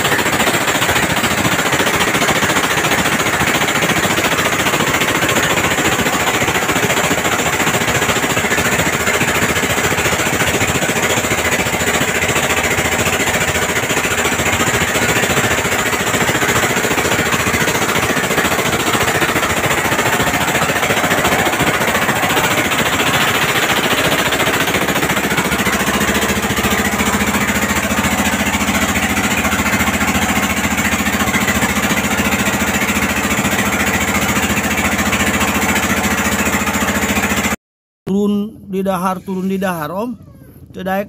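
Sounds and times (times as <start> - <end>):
boat engine knocking: 0.0 - 37.6.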